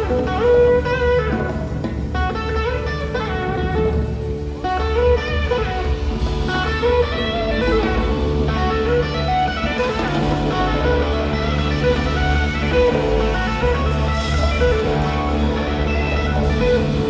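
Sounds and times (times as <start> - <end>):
electric guitar lead line: 0.0 - 17.0
steady bass line: 0.0 - 17.0.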